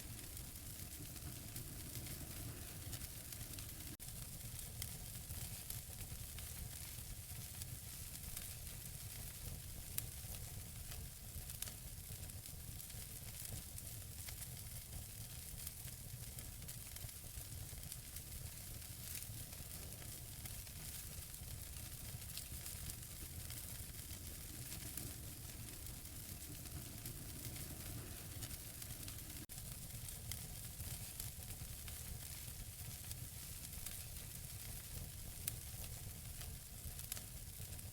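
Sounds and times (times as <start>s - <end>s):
fire crackles and pops: 0.0s - 37.9s
fire hissing and rumbling: 0.0s - 37.9s.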